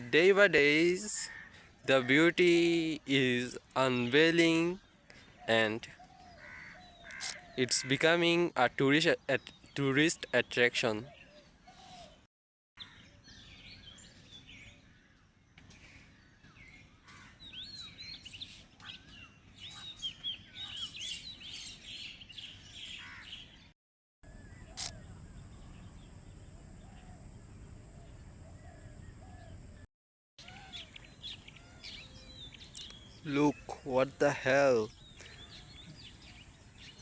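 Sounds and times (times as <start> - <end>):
small birds chirping: 0.0 - 23.7, 30.4 - 37.0.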